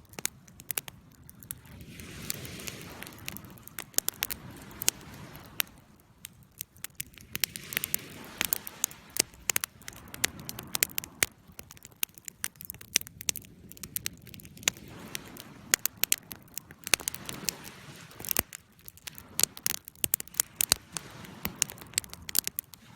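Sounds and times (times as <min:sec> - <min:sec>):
campfire crackling: 0:00.0 - 0:22.9
soft rushing of flame: 0:00.0 - 0:22.9.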